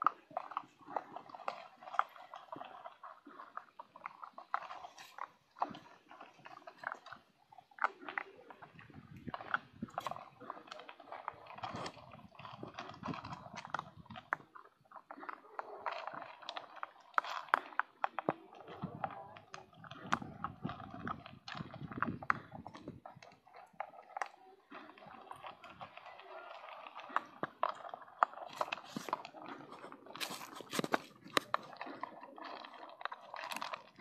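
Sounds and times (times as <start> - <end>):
dogs crunching dry kibble: 0.0 - 34.0.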